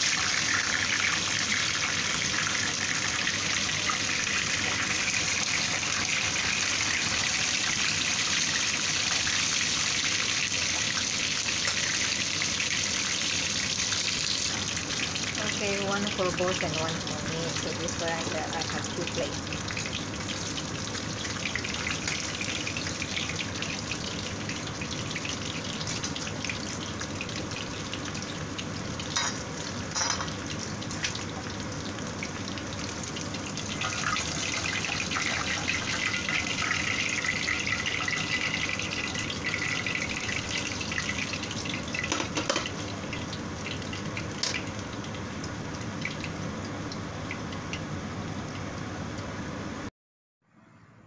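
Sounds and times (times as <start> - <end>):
oil sizzling in a frying pan: 0.0 - 49.9.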